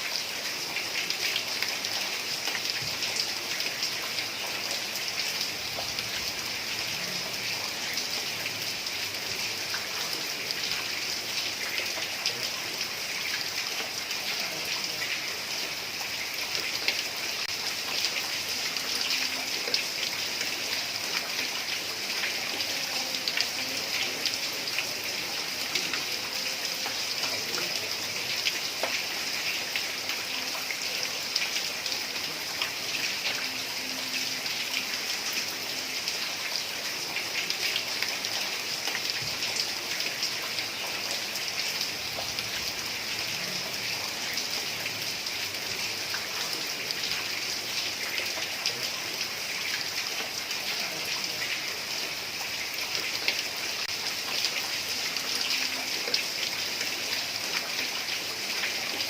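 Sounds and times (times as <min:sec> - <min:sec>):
heavy rain on a tiled roof: 0:00.0 - 0:59.0.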